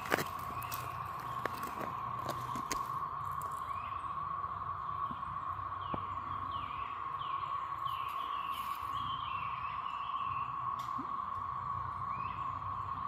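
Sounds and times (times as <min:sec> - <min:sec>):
bird chirping: 0:00.0 - 0:11.2, 0:11.9 - 0:13.0
cicadas droning: 0:00.0 - 0:13.0.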